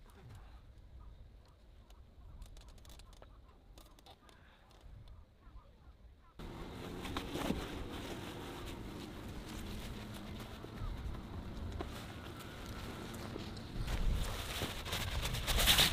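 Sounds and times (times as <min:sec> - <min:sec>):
rustling outdoor background: 0:00.0 - 0:15.9.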